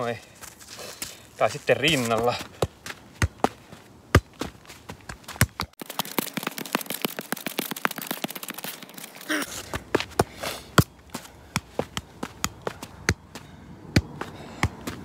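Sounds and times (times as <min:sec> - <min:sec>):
football kicks: 0:02.1 - 0:09.0, 0:09.7 - 0:15.0.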